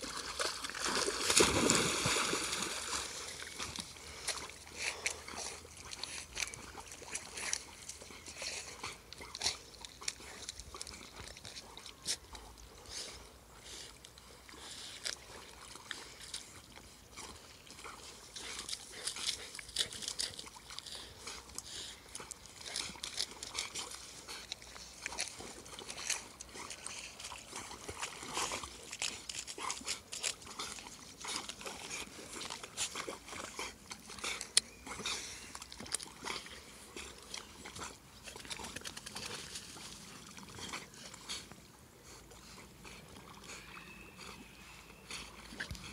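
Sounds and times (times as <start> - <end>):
dogs splashing in water: 0.0 - 12.4, 14.4 - 45.9.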